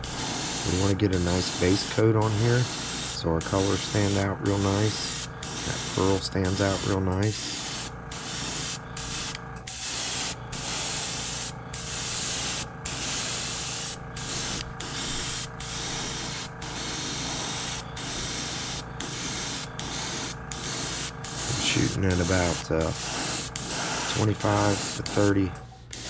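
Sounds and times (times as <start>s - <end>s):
airbrush spraying paint hiss: 0.0s - 26.0s.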